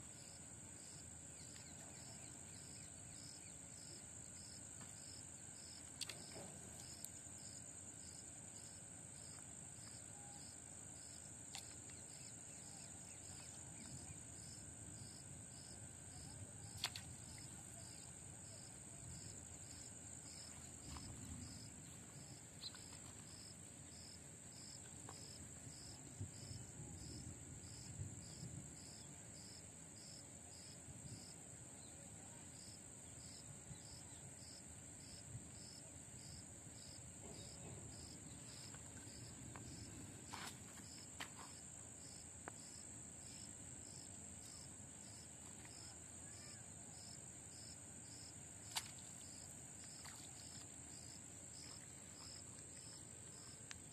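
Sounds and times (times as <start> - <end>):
insects chirping: 0.0 - 31.9, 32.5 - 53.9.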